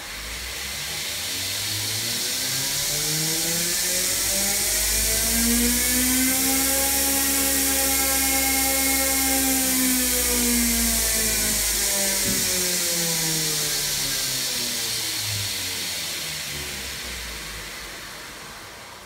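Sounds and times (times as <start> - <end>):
belt grinder motor whine: 0.0 - 18.9.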